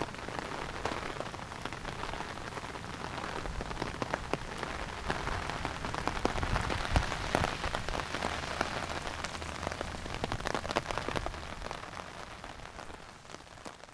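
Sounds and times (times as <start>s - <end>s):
hailstones ticking: 0.0s - 13.9s
heavy rain on pavement: 0.0s - 13.9s.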